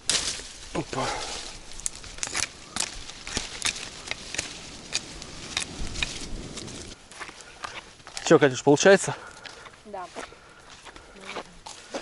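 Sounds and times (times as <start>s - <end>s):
dry branches cracking: 0.0s - 12.0s.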